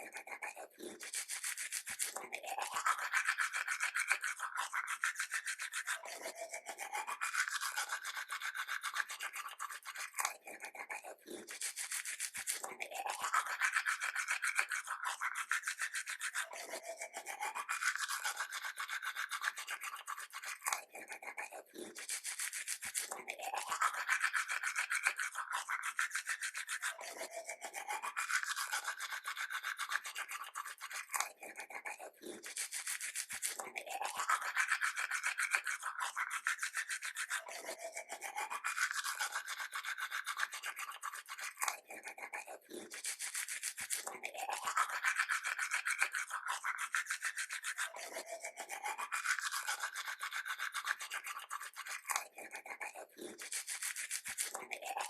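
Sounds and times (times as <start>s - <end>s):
toothbrush scrubbing teeth: 0.0s - 55.0s.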